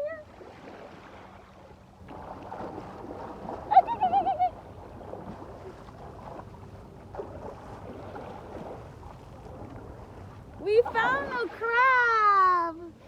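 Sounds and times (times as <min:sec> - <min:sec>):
surf and washing water: 0:00.0 - 0:13.0.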